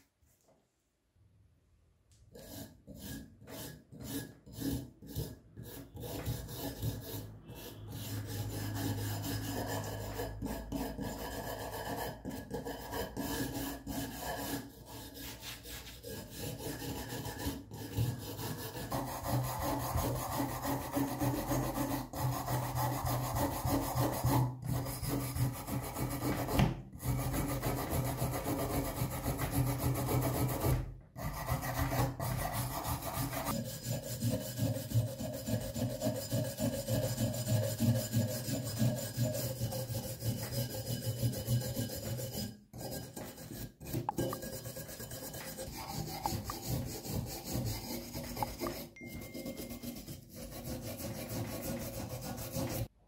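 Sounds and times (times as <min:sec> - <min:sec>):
scraper rasping on metal: 0:02.3 - 0:52.9.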